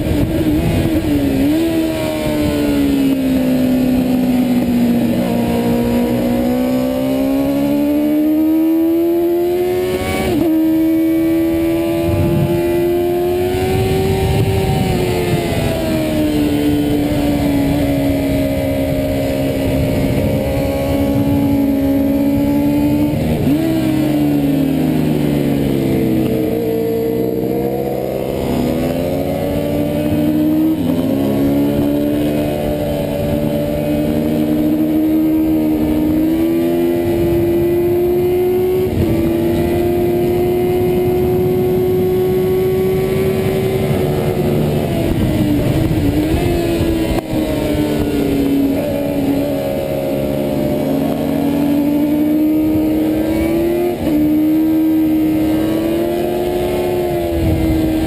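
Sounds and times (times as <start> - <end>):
racing motorcycle engine revving: 0.0 - 58.0
wind rush: 0.0 - 58.0.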